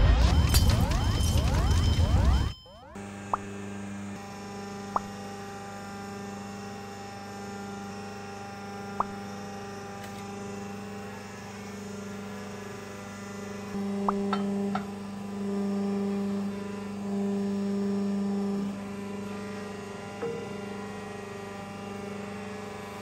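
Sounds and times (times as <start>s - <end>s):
steady low electric hum: 0.0s - 23.0s.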